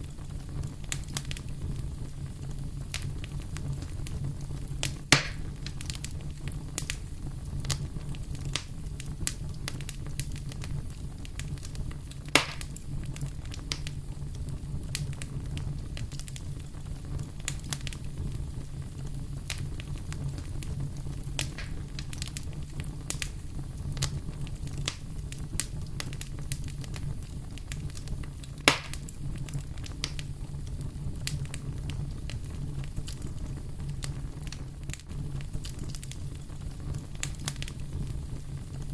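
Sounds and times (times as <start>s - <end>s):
fire crackling and popping: 0.0s - 38.9s
fire flames rumbling: 0.0s - 38.9s.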